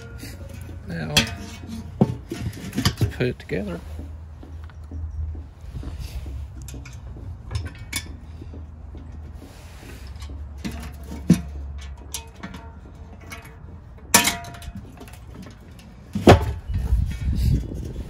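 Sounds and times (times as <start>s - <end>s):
low rumbling handling noise: 0.0s - 18.0s.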